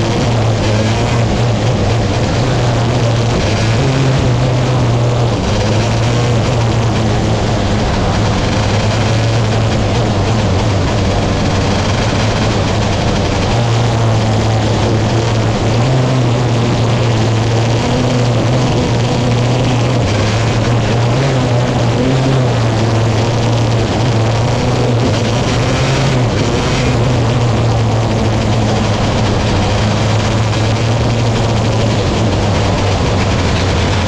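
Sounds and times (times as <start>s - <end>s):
racing engines droning: 0.0s - 34.0s.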